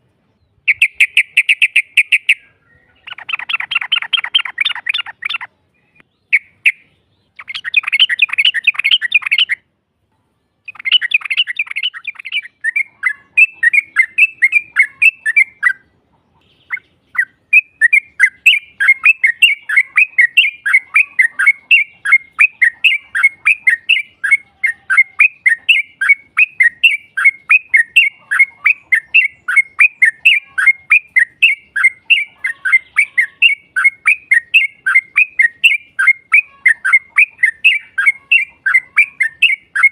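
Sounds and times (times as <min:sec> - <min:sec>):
bulbul singing: 0:00.4 - 0:09.7, 0:10.6 - 0:39.9.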